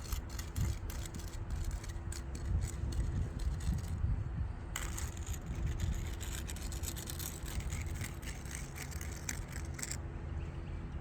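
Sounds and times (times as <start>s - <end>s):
tool scraping wet concrete: 0.0s - 4.0s, 4.8s - 10.0s.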